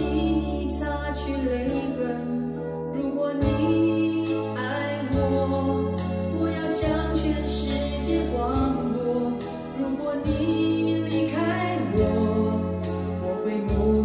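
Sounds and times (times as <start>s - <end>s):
bass notes: 0.0s - 14.0s
person singing: 0.0s - 14.0s.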